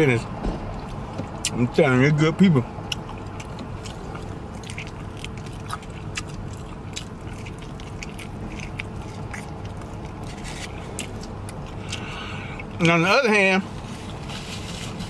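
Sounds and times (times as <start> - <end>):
steady low hum: 0.0 - 15.0
man chewing meat: 0.6 - 13.0, 13.7 - 15.0.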